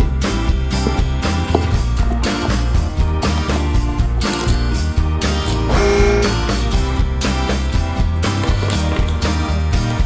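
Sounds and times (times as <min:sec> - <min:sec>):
upbeat band music: 0:00.2 - 0:08.5.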